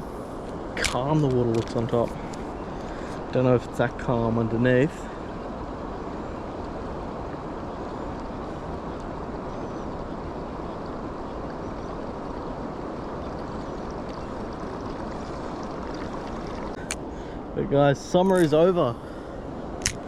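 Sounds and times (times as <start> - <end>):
flowing river water rushing: 0.0 - 20.0.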